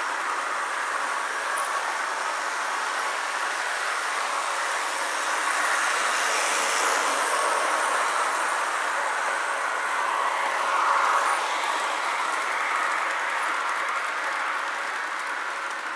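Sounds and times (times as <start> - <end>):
model trains rolling on metal track: 0.0 - 15.9.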